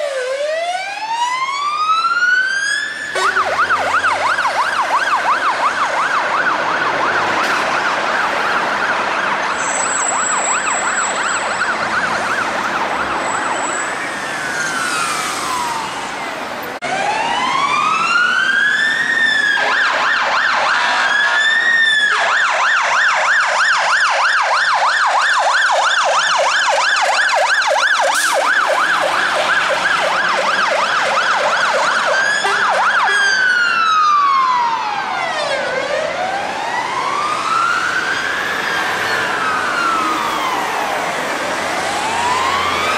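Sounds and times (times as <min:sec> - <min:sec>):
fire engine sirens: 0:00.0 - 0:42.9.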